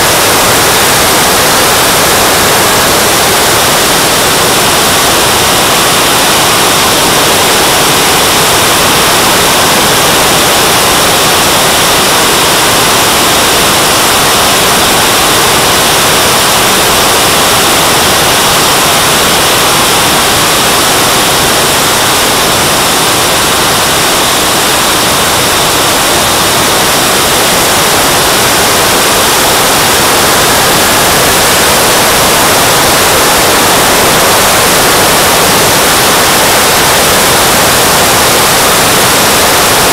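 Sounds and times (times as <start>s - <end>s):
model jet turbine roar: 0.0s - 39.9s.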